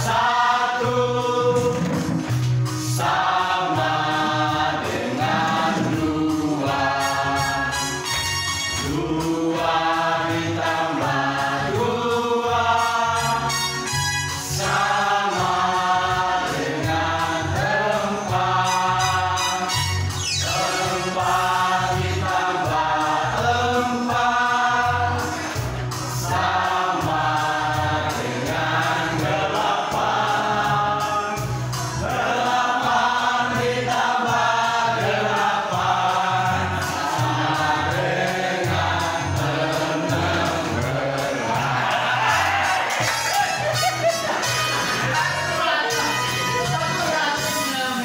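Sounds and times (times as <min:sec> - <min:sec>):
music with a low rhythmic beat: 0:00.0 - 0:46.9
voices singing together: 0:00.0 - 0:48.0.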